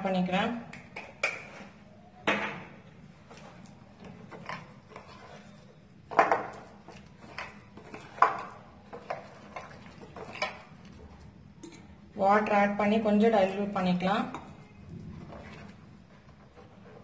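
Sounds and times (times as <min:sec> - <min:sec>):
spoon stirring thick batter: 0:00.1 - 0:17.0.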